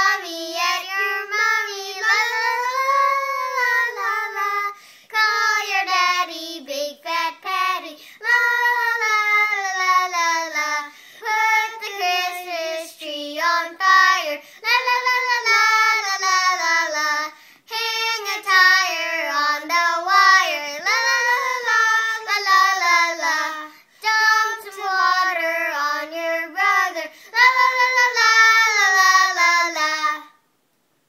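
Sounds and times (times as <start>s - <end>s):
children singing unaccompanied: 0.0s - 30.2s.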